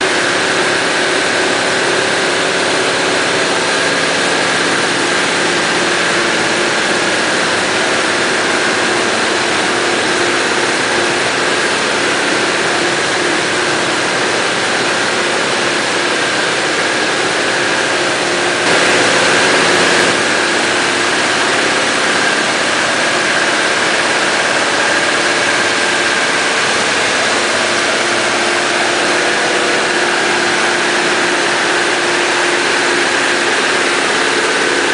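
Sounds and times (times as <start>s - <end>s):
washing machine running with hum: 0.0s - 34.9s.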